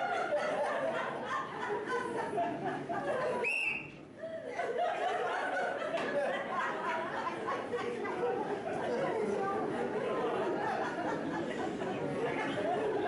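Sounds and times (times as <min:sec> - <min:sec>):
voices chattering and chuckling: 0:00.0 - 0:13.0.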